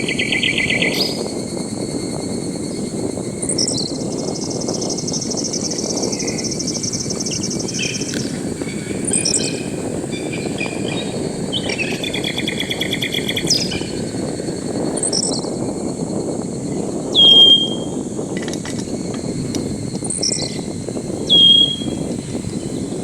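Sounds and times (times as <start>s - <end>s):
birds chirping and trilling: 0.0s - 15.9s, 16.6s - 23.0s
rapidly pulsing insect trill: 0.0s - 23.0s
steady low hum: 0.0s - 23.0s.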